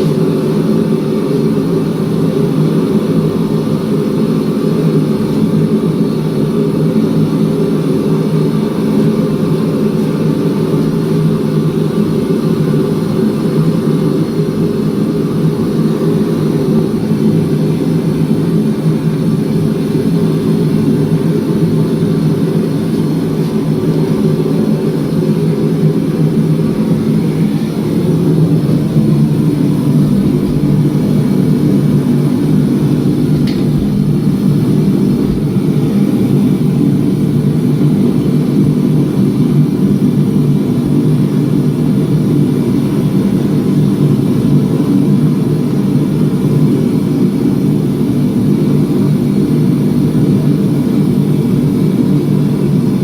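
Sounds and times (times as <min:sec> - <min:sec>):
shop equipment droning: 0:00.0 - 0:53.0.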